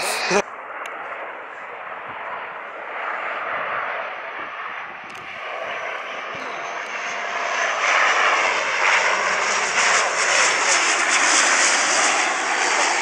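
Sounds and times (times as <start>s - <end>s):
jet engines passing: 0.0s - 13.0s.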